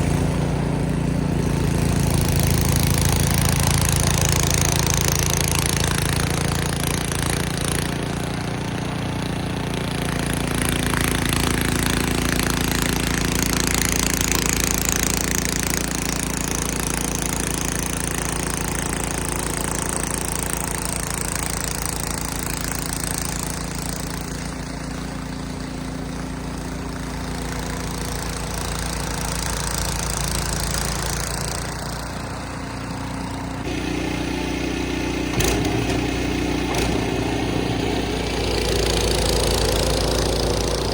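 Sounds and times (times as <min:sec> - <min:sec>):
snow blower engine running: 0:00.0 - 0:40.9.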